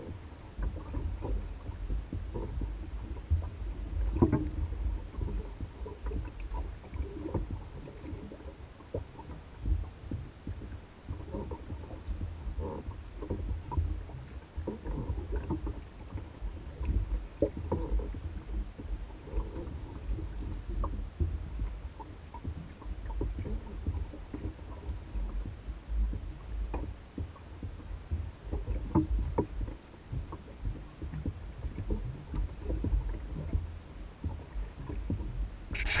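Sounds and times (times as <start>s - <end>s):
steady low rumble: 0.0s - 36.0s
waves lapping against canoe hull: 0.0s - 36.0s.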